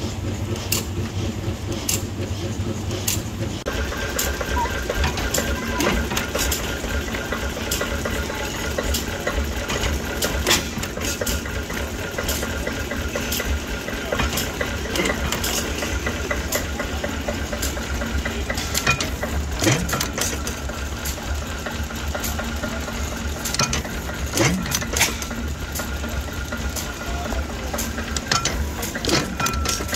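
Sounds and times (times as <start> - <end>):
small engine running: 0.0 - 29.9.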